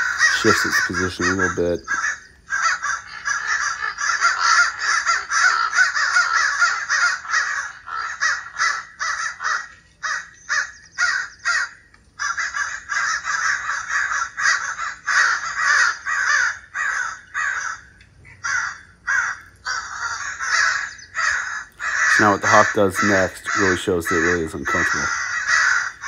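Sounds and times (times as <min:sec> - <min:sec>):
crows cawing through speaker: 0:00.0 - 0:26.0.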